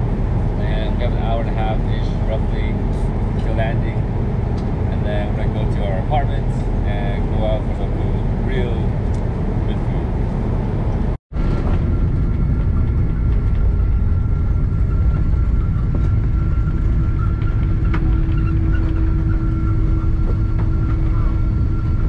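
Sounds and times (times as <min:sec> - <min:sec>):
faint high engine whine: 0:00.0 - 0:22.0
jet engines rumbling: 0:00.0 - 0:22.0
lower steady hum: 0:00.0 - 0:22.0.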